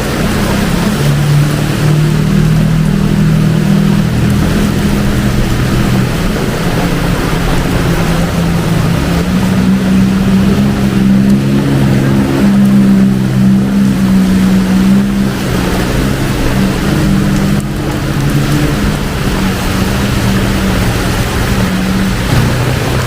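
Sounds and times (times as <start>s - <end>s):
heavy rain hiss: 0.0s - 23.0s
vehicle engine humming: 0.0s - 23.0s.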